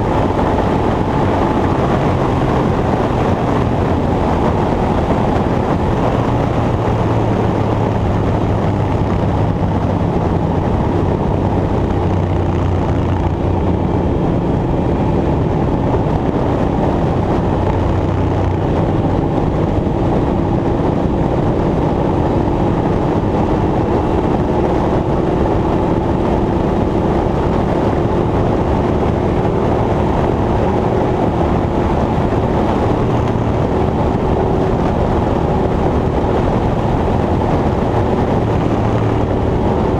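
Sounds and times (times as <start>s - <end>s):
higher hum climbing in pitch: 0.0s - 39.9s.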